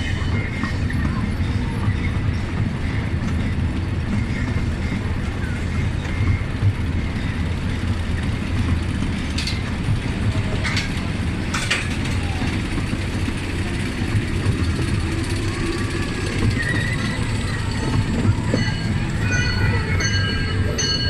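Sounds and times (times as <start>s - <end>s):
small train rumbling on track: 0.0s - 21.0s.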